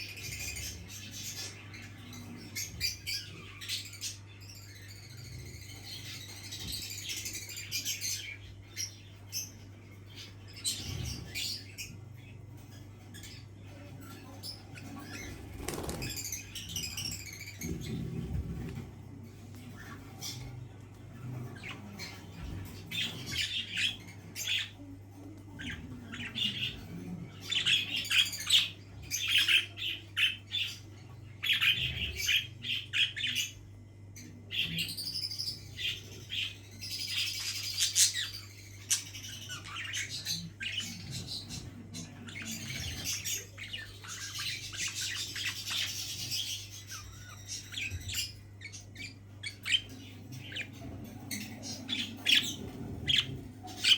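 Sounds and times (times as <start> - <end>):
budgerigars chirping and squawking: 0.0 - 53.9.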